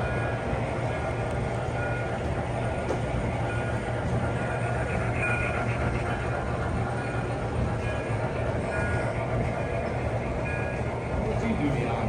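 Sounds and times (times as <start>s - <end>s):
model trains rumbling on track: 0.0s - 12.0s.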